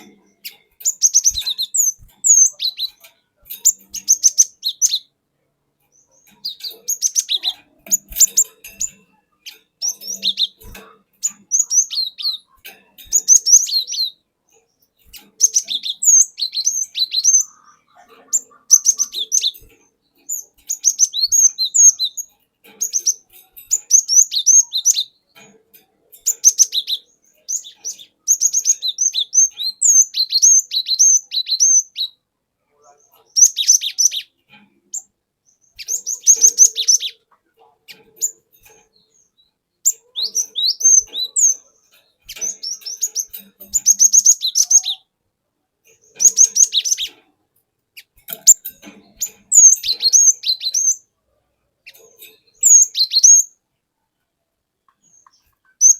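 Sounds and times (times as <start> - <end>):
bird singing high chirps: 0.0 - 5.2, 5.8 - 25.4, 26.1 - 32.2, 33.0 - 37.3, 37.9 - 45.1, 45.9 - 47.3, 48.0 - 51.1, 51.8 - 53.6, 55.0 - 55.9.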